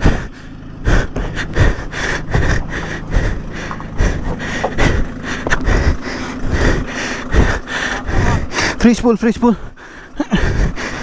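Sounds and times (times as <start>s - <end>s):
irregular rushing bursts: 0.0s - 9.8s
off-road vehicle engine running: 0.0s - 11.0s.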